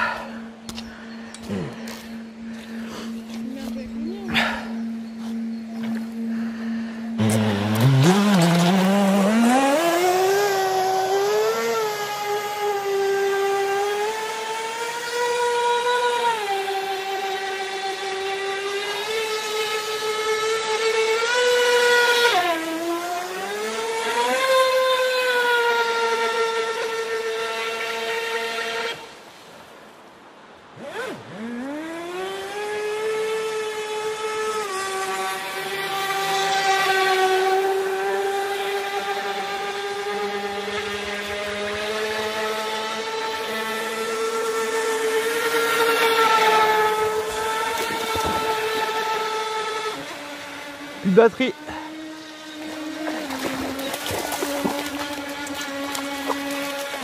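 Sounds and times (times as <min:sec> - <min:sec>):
electric motor high whine: 0:00.0 - 0:29.3, 0:30.4 - 0:57.0.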